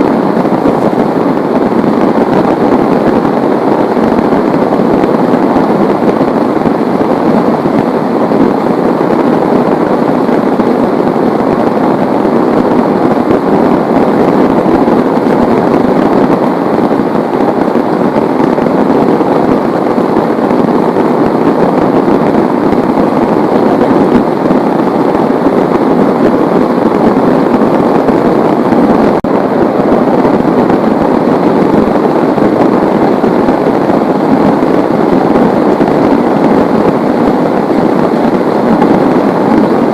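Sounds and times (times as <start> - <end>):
heavy rain pelting down: 0.0 - 39.9.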